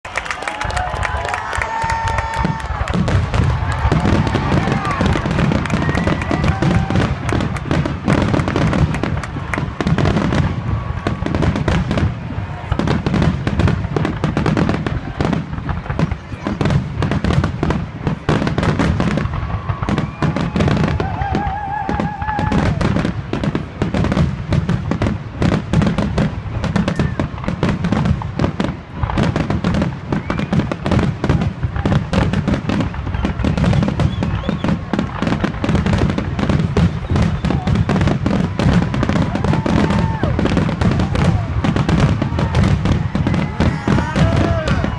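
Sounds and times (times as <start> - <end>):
fireworks booming and crackling: 0.0 - 44.9.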